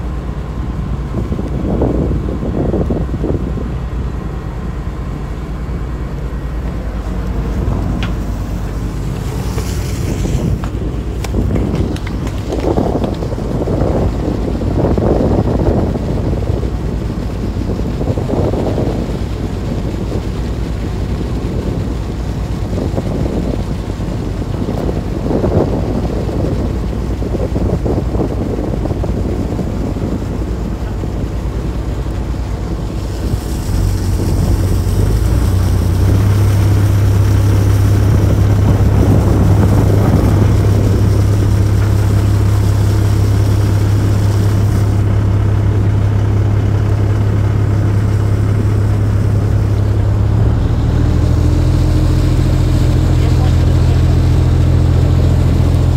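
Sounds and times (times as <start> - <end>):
boat engine low hum: 0.0 - 55.9
wind buffeting microphone: 0.0 - 55.9.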